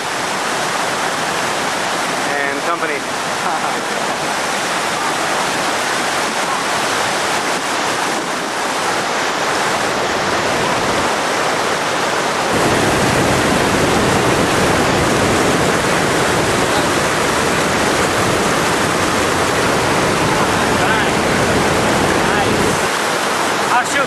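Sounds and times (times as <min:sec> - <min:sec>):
white water rushing over rocks: 0:00.0 - 0:24.0.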